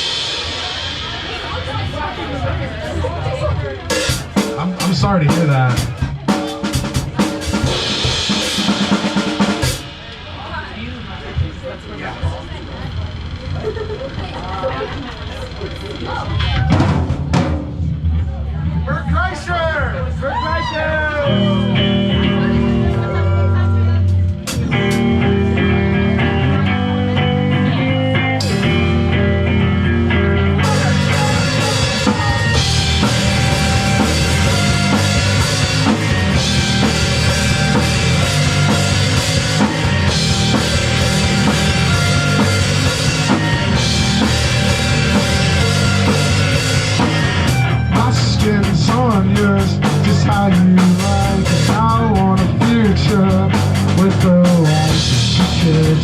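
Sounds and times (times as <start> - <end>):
drum kit: 0.0 - 14.7, 15.4 - 18.4, 24.0 - 56.0
guitar and bass: 0.0 - 56.0
live rock band playing: 0.0 - 56.0.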